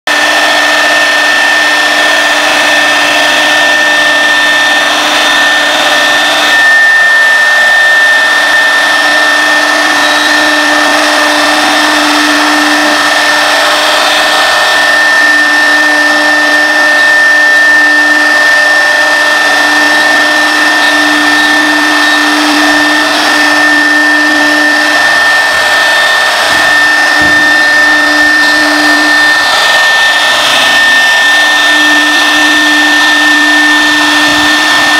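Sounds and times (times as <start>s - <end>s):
bit cutting wood: 0.0s - 34.9s
router spindle high whine: 0.0s - 34.9s
lower tone: 0.1s - 34.9s.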